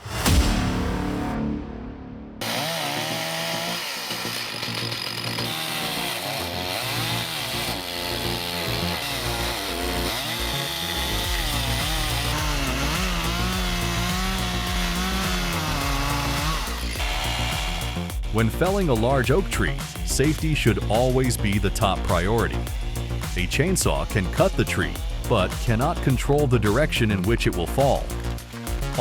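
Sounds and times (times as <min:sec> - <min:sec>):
chainsaw cutting wood: 0:02.4 - 0:29.0.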